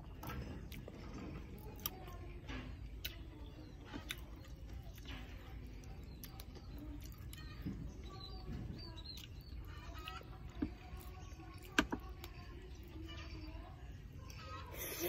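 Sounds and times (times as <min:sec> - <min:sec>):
clicks and knocks of eating: 0:00.0 - 0:14.7
faint birds chirping: 0:00.0 - 0:15.0.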